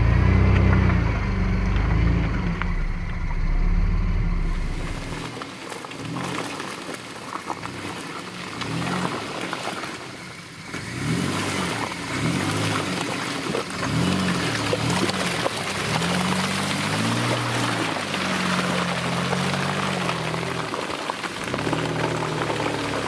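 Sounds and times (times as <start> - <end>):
car engine revving: 0.0 - 6.8, 7.6 - 23.0
mud splashing off tyres: 0.0 - 23.0.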